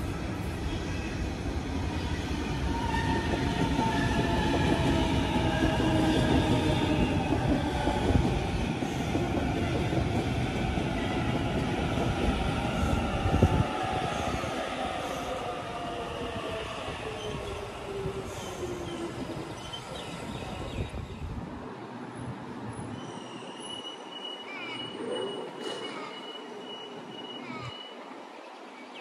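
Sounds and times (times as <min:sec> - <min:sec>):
electric train passing: 0:00.0 - 0:28.3.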